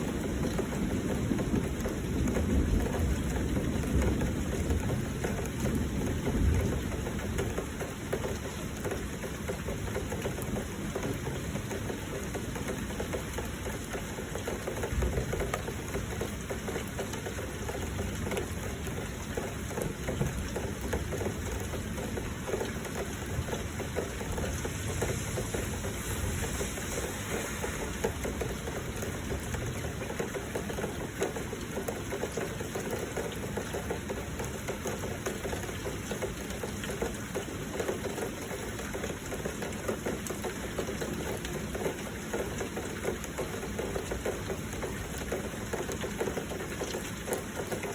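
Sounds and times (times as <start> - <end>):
flowing water: 0.0 - 47.9
heavy rain: 0.0 - 47.9.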